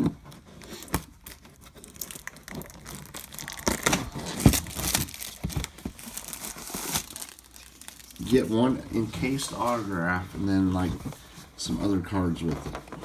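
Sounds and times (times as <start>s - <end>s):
cardboard rustling and tearing: 0.0s - 13.0s.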